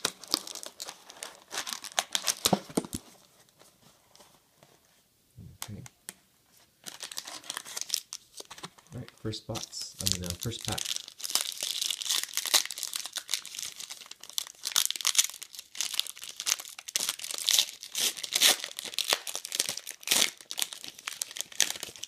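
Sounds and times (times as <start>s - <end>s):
foil pack crinkling and tearing: 0.0s - 2.6s, 6.8s - 22.0s.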